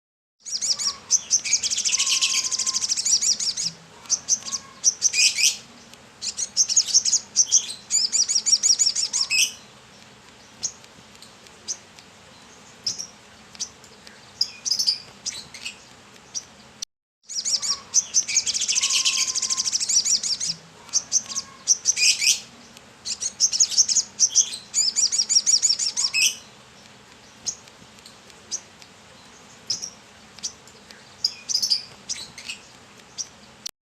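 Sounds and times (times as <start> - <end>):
bird twittering trills: 0.4 - 33.7.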